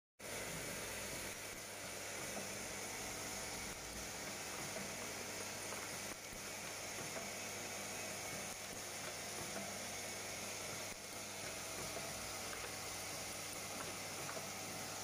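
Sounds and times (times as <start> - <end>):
machine motor humming: 0.2 - 15.0.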